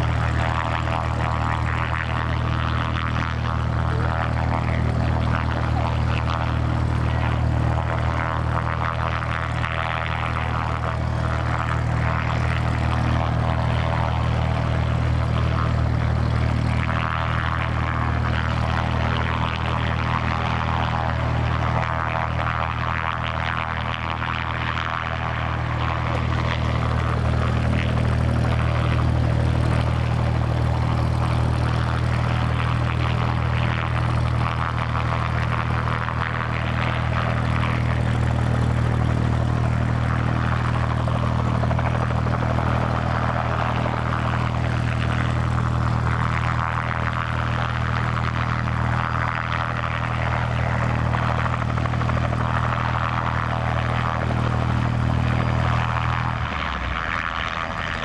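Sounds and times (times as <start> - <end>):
helicopter rotor beat: 0.0 - 58.0
helicopter rushing hiss: 0.0 - 58.0.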